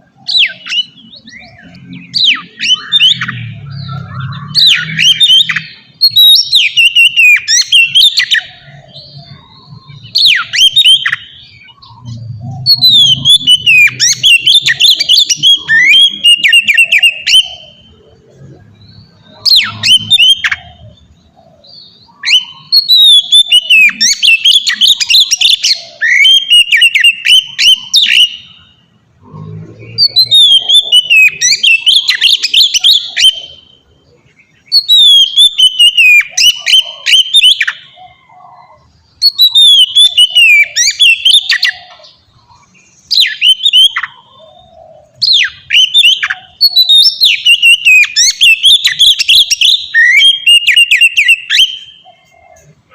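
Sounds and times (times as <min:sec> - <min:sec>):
magpie-robin singing: 0:00.0 - 0:52.9.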